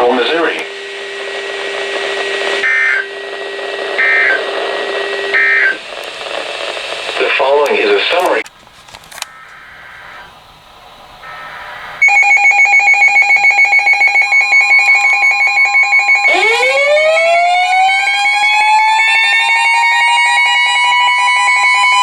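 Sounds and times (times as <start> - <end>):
pulsing electronic alarm: 0.0 - 7.6, 9.3 - 10.4, 11.2 - 22.0
siren wailing: 0.0 - 8.4, 9.2 - 10.4, 11.2 - 22.0.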